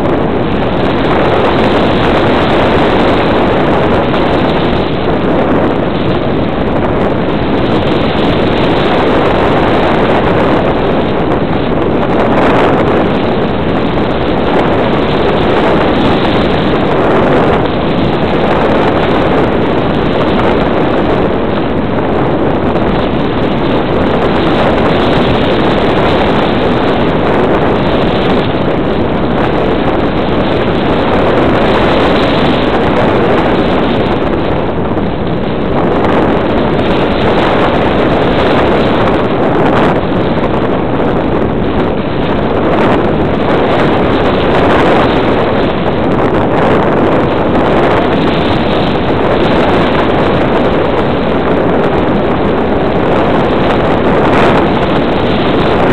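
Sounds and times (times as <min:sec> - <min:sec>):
rush of air on microphone: 0:00.0 - 0:55.9.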